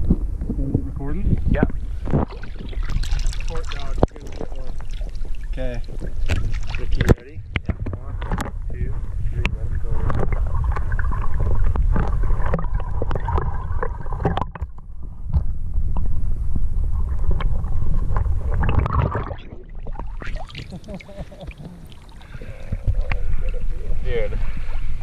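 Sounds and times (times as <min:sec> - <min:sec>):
low underwater rumble: 0:00.0 - 0:25.0
water sloshing and gurgling: 0:00.0 - 0:25.0.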